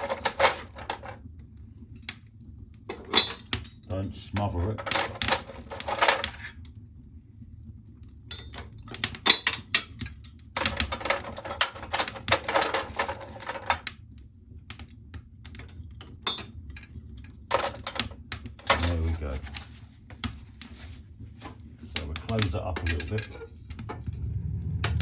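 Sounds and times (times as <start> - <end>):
fire crackling and popping: 0.0 - 25.0
low steady rumble: 0.0 - 25.0.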